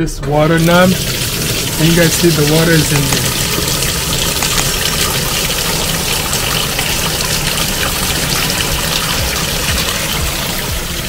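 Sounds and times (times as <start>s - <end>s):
tap water pouring into plastic tub: 0.5s - 11.0s.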